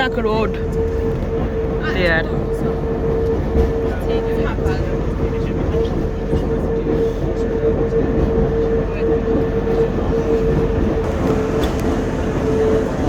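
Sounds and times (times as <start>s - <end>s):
electric railcar whine: 0.0s - 13.0s
railcar low rumble: 0.0s - 13.0s.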